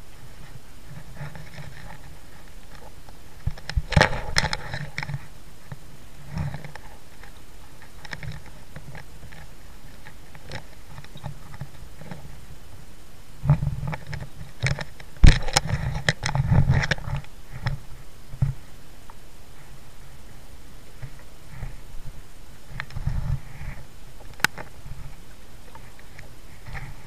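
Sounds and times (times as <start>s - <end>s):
quiet water sounds: 0.0s - 27.0s.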